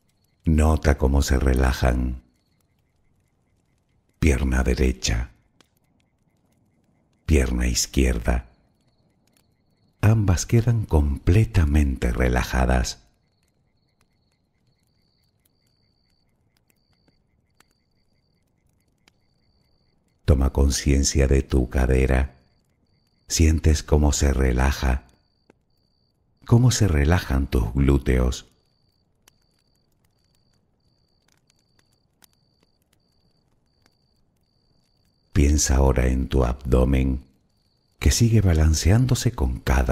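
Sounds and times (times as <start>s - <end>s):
campfire crackling pops: 0.0s - 39.9s
crickets trilling: 0.0s - 39.9s.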